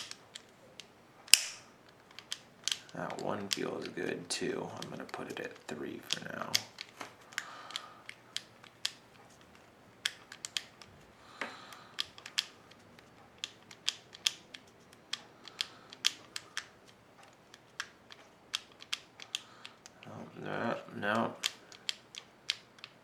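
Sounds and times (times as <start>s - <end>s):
combination lock dials clicking: 0.0s - 23.0s.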